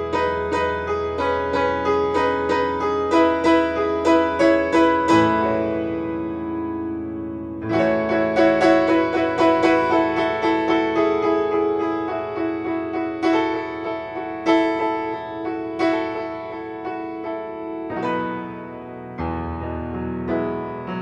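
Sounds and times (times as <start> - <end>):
solo piano music: 0.0 - 21.0.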